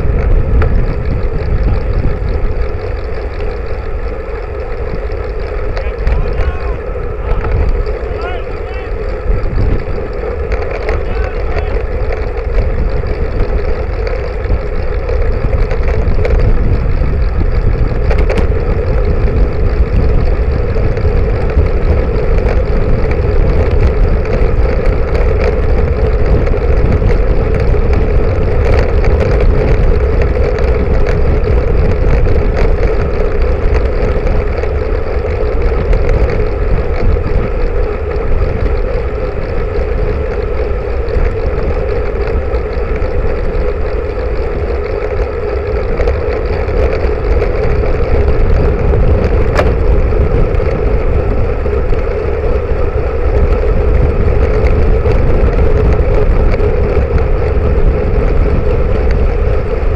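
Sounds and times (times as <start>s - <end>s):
continuous hum: 0.0s - 59.9s
road noise rumble: 0.0s - 59.9s
wind buffeting: 0.0s - 59.9s.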